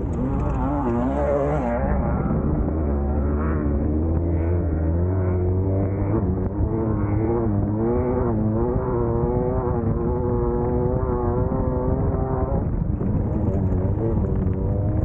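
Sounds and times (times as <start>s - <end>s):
constant low rumble: 0.0s - 15.0s
race car engine revving: 0.0s - 15.0s.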